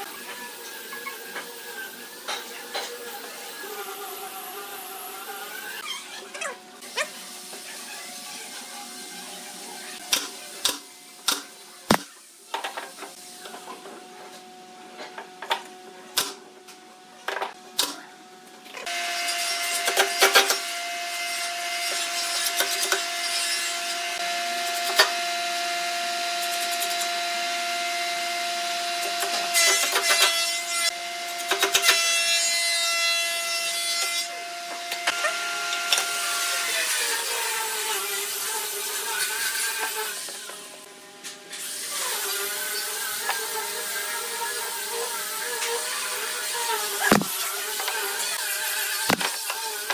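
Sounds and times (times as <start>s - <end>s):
mechanical hum: 0.0s - 49.9s.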